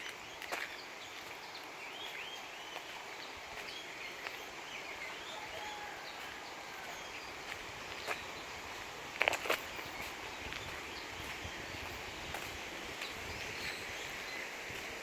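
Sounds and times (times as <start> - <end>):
steady background hiss: 0.0 - 15.0
wild birds chirping: 0.0 - 15.0.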